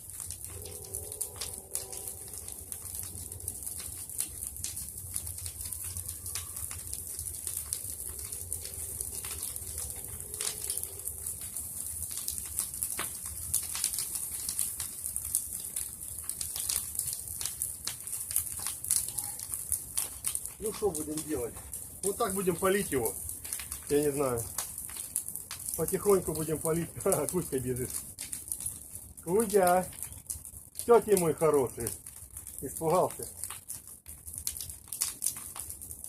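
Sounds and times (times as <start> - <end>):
bonfire crackling and popping: 0.0 - 36.0
fire hissing: 0.0 - 36.0.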